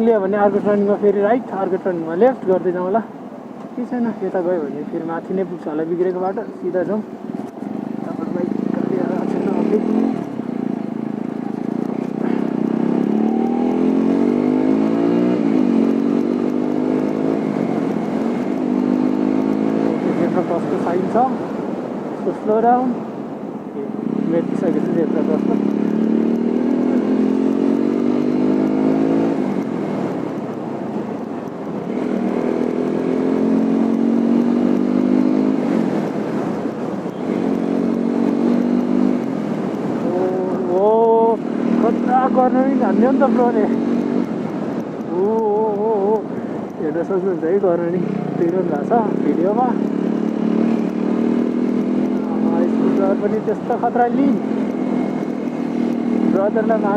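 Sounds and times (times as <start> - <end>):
motorcycle engine revving: 6.4 - 23.0, 23.8 - 56.9.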